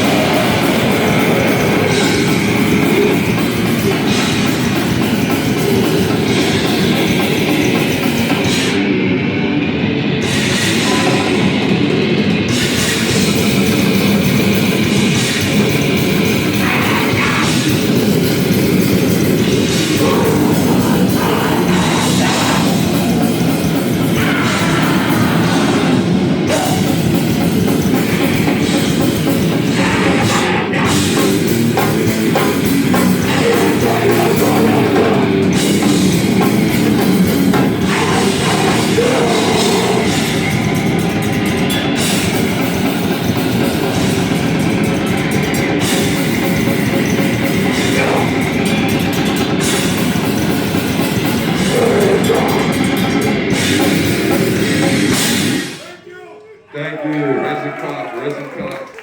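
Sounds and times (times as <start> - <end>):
band playing distorted heavy music: 0.0 - 55.8
electric guitar: 0.0 - 55.8
drum kit: 0.0 - 55.9.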